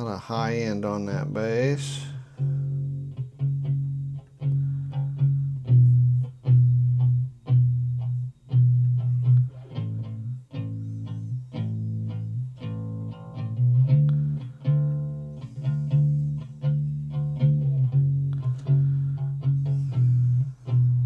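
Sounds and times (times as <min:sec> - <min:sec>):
plucked bass guitar notes: 0:00.0 - 0:21.0.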